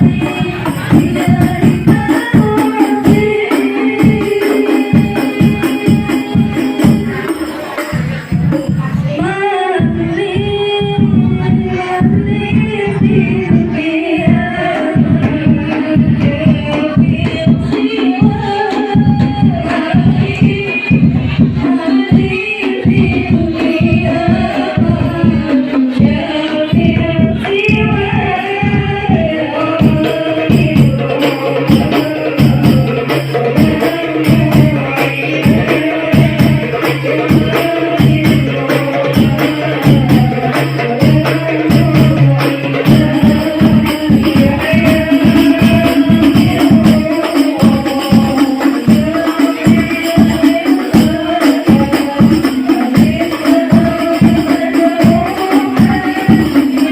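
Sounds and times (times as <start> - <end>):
frame drums beaten fast: 0.0 - 56.9
group of voices singing: 0.0 - 56.9.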